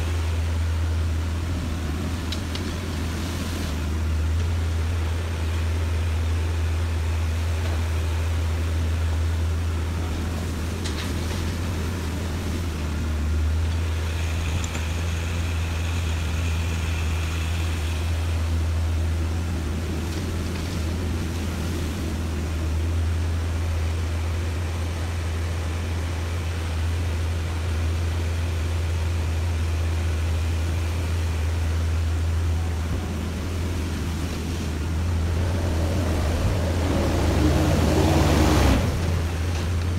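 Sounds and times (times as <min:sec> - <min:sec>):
diesel engines droning: 0:00.0 - 0:39.9.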